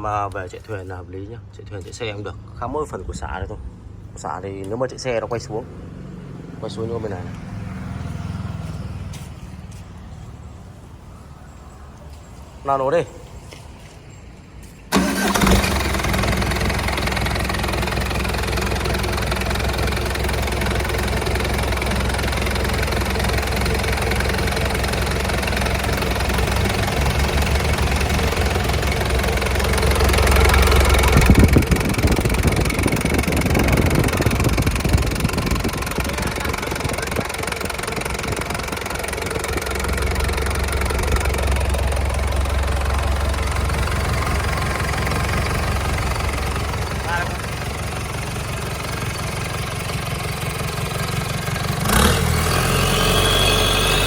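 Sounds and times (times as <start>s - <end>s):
diesel engine starting and idling: 1.8s - 11.7s, 14.8s - 54.0s
diesel engine revving: 2.2s - 11.0s, 14.9s - 54.0s.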